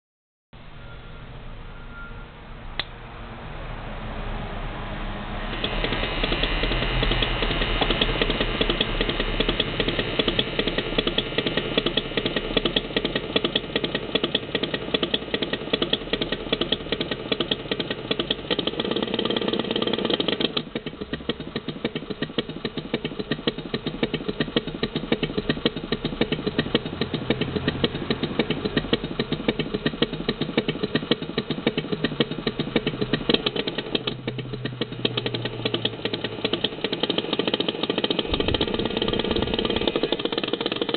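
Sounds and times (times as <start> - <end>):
engine sound from small speaker: 0.6 - 40.9.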